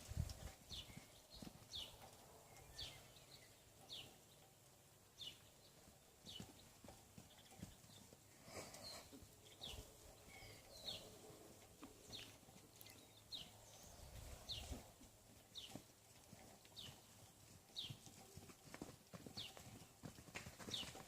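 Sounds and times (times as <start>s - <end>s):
horse hooves thudding: 0.0s - 21.0s.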